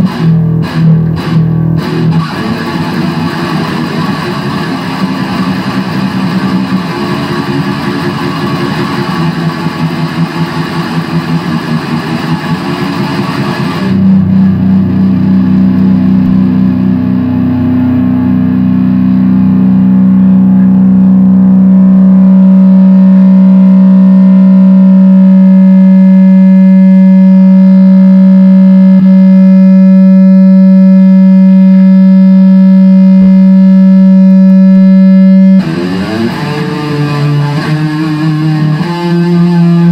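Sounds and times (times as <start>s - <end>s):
distorted electric guitar riffs: 0.0s - 39.9s
guitar amp feedback: 0.0s - 39.9s.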